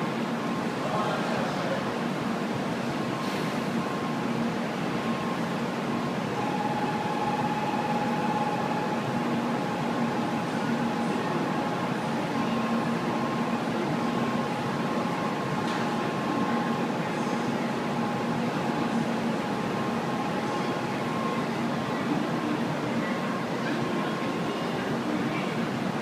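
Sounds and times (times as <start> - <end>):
idling train hum and hiss: 0.0 - 26.0.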